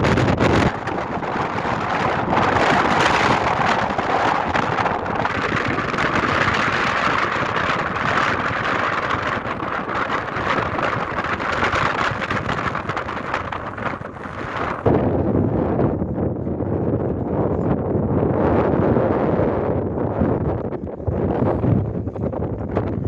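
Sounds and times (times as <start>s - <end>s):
strong gusty wind: 0.0s - 23.0s.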